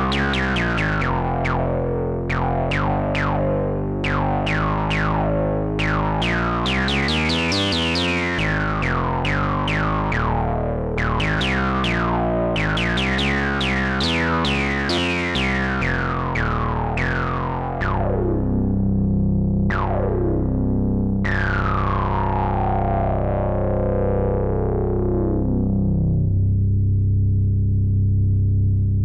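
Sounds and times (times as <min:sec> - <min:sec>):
low synth bass note: 0:00.0 - 0:29.0
synthesizer notes with filter sweeps: 0:00.0 - 0:29.0.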